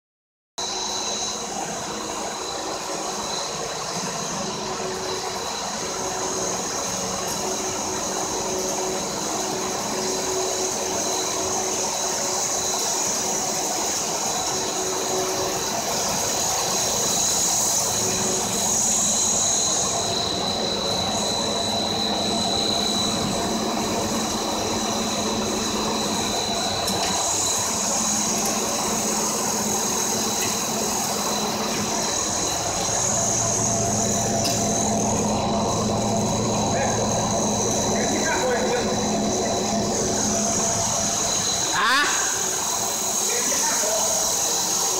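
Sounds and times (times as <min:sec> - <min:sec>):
constant high whine: 0:00.6 - 0:44.9
machine drone: 0:00.6 - 0:44.9.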